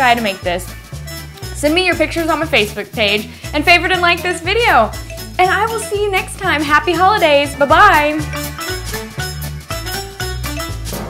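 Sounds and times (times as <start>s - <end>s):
upbeat music with bass line: 0.0s - 11.0s.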